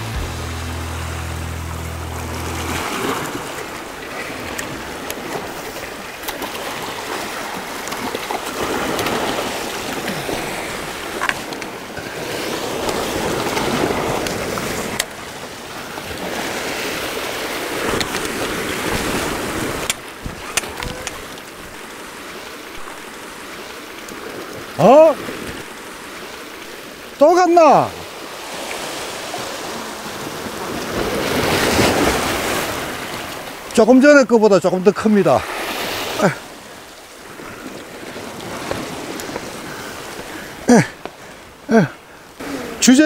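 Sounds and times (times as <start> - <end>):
waves breaking on rocks: 0.0 - 43.0.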